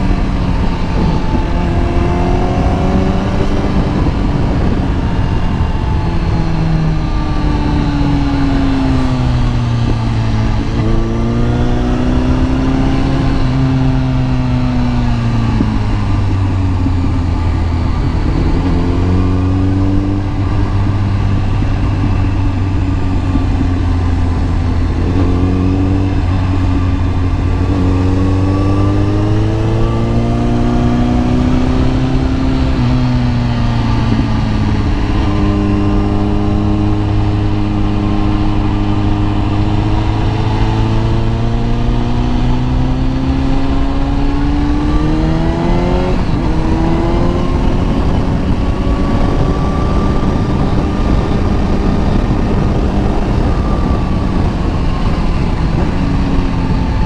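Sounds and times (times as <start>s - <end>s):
wind rushing: 0.0s - 57.0s.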